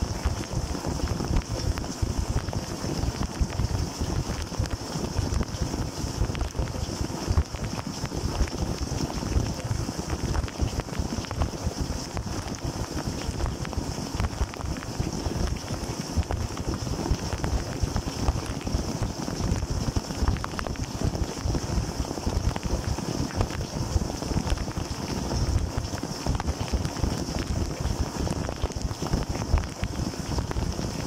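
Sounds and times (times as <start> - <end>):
dishwasher water jets splashing: 0.0 - 31.0.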